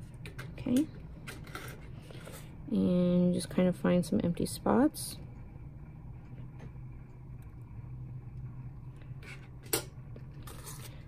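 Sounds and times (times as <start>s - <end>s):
steady low room hum: 0.0s - 11.0s.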